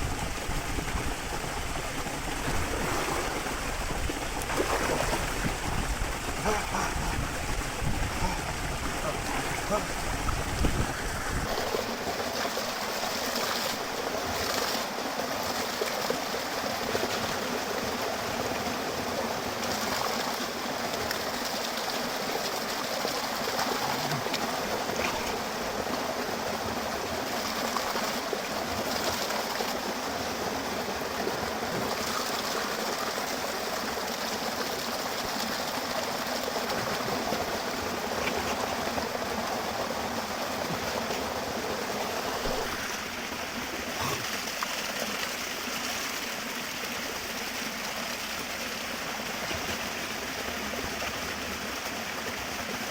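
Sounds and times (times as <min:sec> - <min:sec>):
small waterfall pouring: 0:00.0 - 0:52.9.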